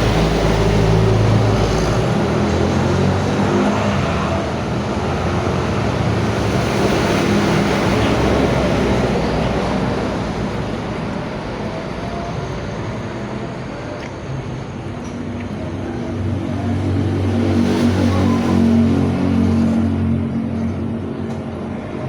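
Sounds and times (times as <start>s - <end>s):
road and wind noise: 0.0s - 22.0s
vehicle engine hum: 0.0s - 22.0s.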